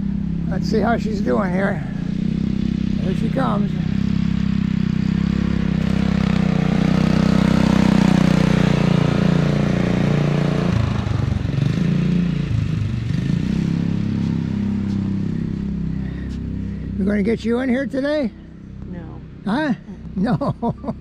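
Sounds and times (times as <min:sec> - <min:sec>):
small engine driving past: 0:00.0 - 0:19.4.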